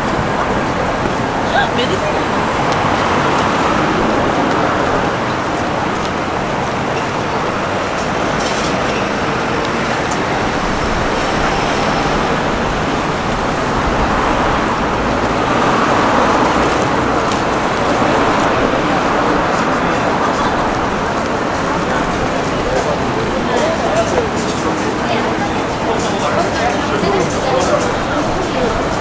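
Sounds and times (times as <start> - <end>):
street traffic noise: 0.0 - 29.0.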